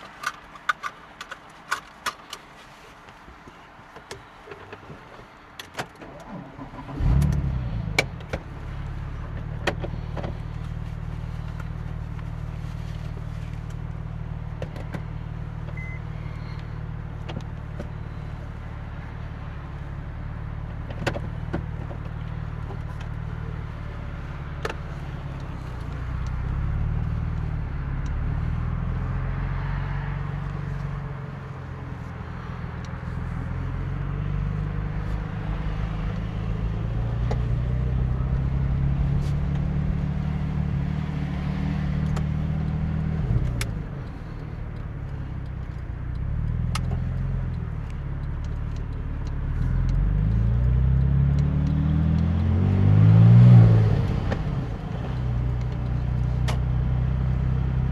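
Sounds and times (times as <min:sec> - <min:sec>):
car engine starting and idling: 0:00.0 - 0:57.9.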